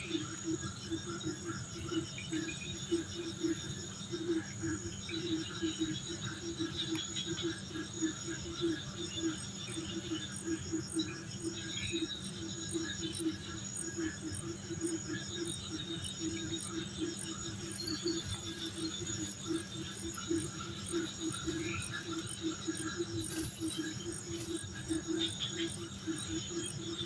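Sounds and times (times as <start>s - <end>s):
high pulsing insect chirps: 0.0s - 27.0s
low uneven pulsing insect call: 0.0s - 27.0s.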